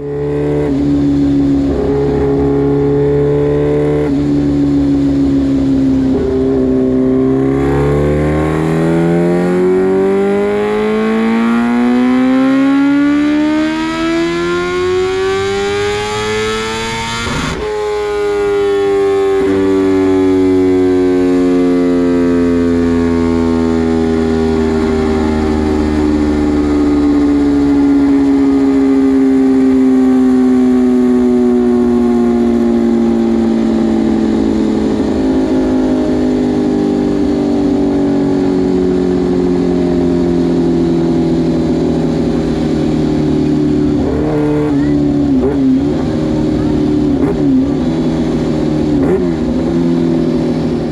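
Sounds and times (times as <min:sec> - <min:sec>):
motorcycle engine revving on dyno: 0:00.0 - 0:50.9.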